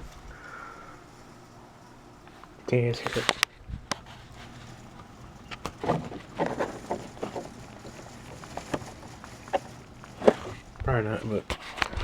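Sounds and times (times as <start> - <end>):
faint rain hiss: 0.0 - 12.0.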